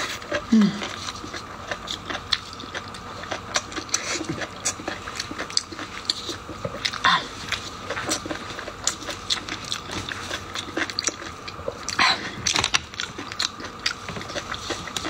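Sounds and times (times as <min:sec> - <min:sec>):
person chewing food closely: 0:00.0 - 0:15.0.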